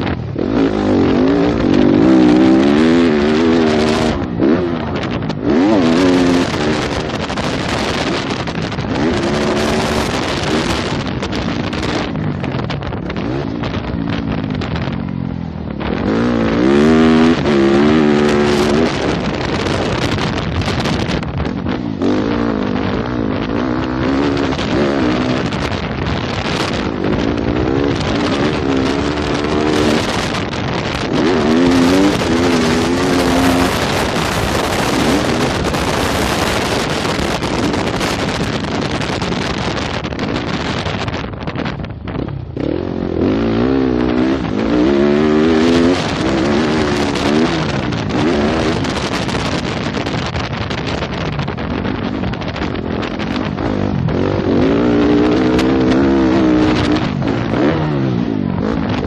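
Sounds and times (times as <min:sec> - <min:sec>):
motocross bike engine revving: 0:00.0 - 0:59.0
steady rushing noise: 0:00.0 - 0:59.0.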